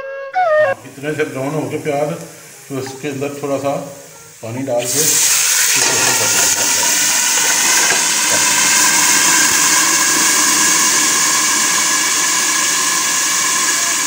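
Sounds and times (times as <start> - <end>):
oil and onions sizzling in pot: 0.8 - 14.0.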